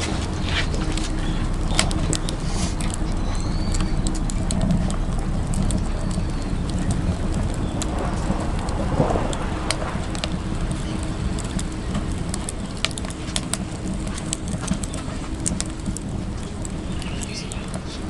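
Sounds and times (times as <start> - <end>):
stove low rumble: 0.0 - 18.0
wood fire crackling and popping: 0.0 - 18.0.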